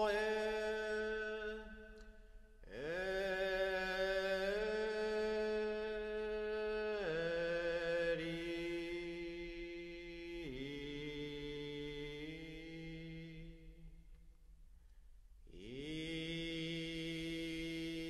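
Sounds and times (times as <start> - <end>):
low voice chanting: 0.0 - 14.0, 15.5 - 18.0.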